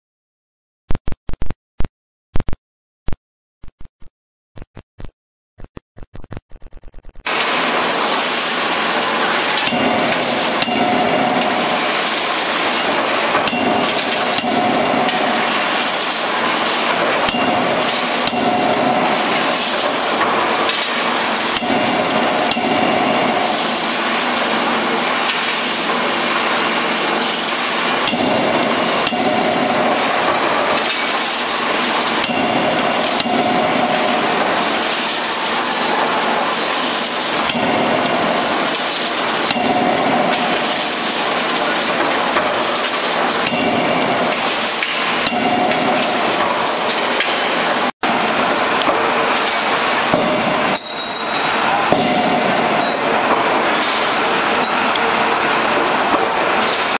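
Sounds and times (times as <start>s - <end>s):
shop machinery noise: 7.2s - 56.9s
forging hammer metal blows: 7.3s - 56.9s.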